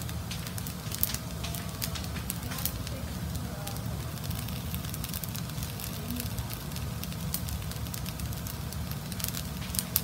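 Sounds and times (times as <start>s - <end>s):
fried rice sizzling in a pan: 0.0s - 10.0s
gas flame rumble: 0.0s - 10.0s.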